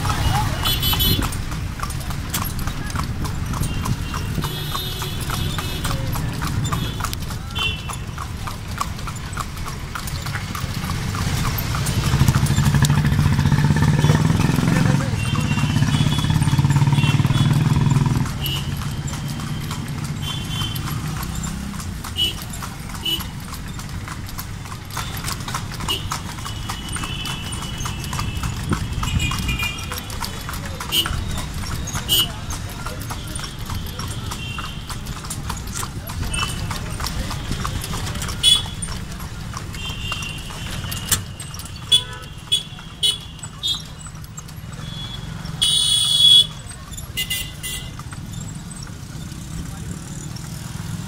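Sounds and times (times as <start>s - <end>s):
cart rumbling: 0.0s - 51.0s
horse hooves on pavement: 0.0s - 51.0s.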